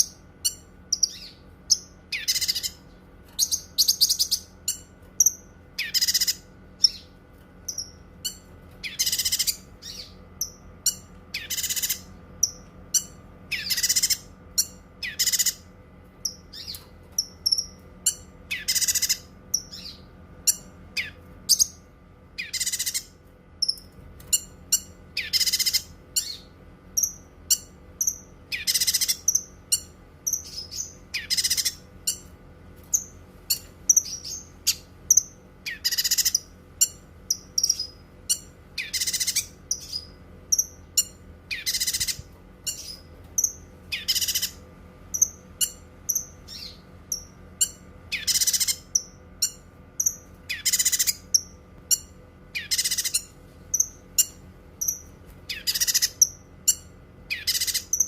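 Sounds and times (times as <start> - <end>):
bird chirps and whistles: 0.0 - 2.8, 3.4 - 7.1, 7.7 - 15.6, 16.3 - 21.8, 22.4 - 32.2, 33.0 - 44.6, 45.2 - 58.0.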